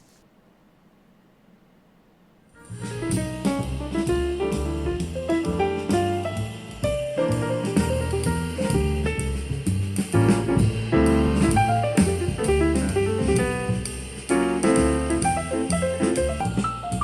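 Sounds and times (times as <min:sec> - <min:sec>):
jazz music with piano and drums: 0:02.5 - 0:17.0.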